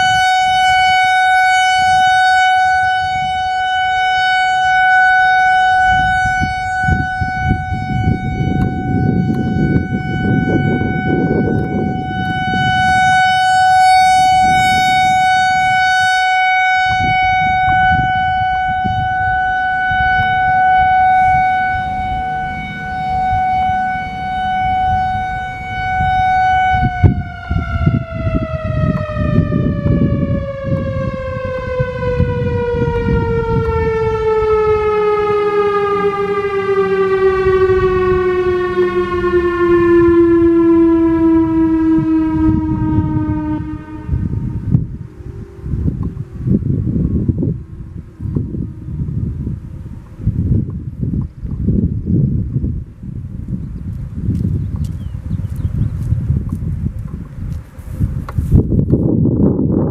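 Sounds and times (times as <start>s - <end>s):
electronic warning siren tone: 0.0s - 52.8s
wind rumbling on microphone: 0.0s - 59.9s.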